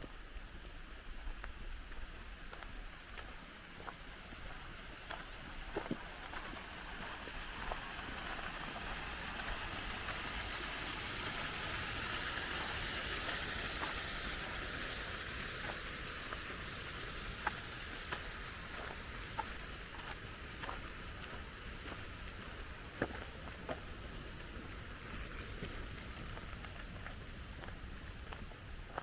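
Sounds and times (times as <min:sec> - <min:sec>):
rushing hiss: 0:00.1 - 0:28.4.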